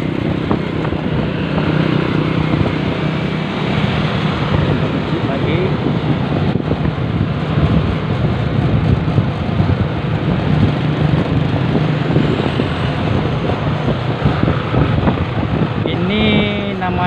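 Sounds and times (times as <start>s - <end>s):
engine hum: 0.0s - 17.0s
surrounding traffic: 0.0s - 17.0s
wind rushing over microphone: 0.0s - 17.0s.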